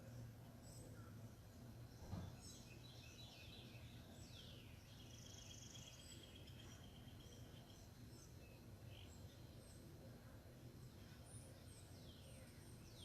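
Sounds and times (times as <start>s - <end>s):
faint birdsong: 0.0s - 13.0s
low steady hum: 0.0s - 13.0s.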